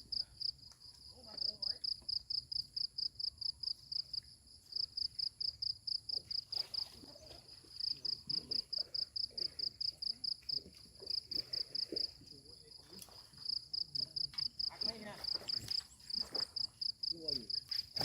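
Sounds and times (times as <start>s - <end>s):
insect chirping: 0.1s - 18.0s.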